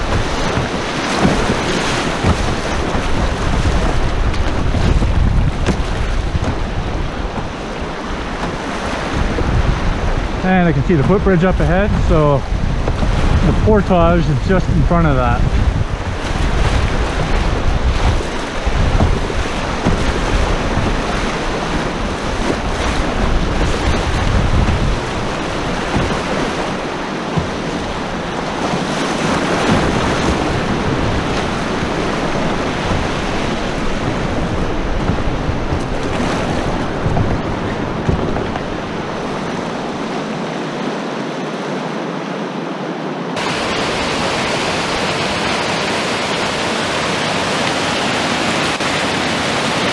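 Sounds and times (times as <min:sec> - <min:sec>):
rushing whitewater rapids: 0:00.0 - 0:49.9
wind gusting on microphone: 0:00.0 - 0:49.9.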